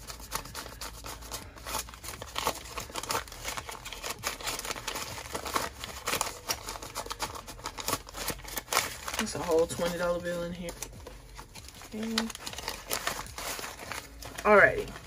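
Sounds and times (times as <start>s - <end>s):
banknotes rustling and flicking: 0.0s - 15.0s.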